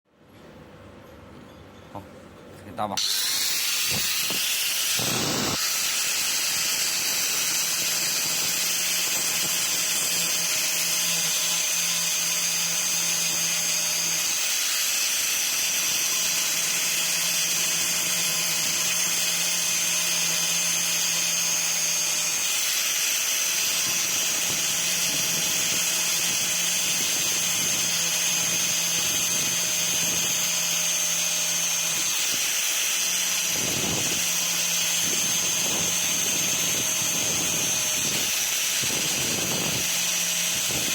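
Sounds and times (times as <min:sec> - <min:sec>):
power drill whining: 0:03.0 - 0:40.9.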